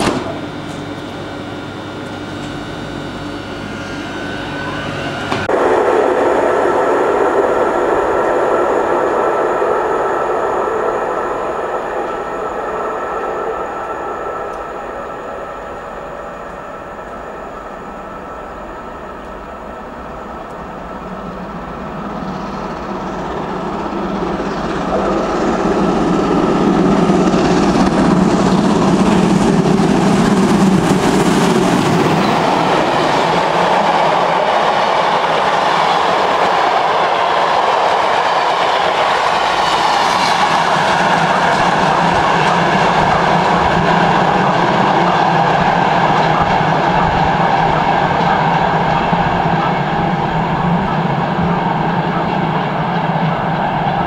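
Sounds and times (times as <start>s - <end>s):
steam locomotive passing: 0.0s - 54.0s.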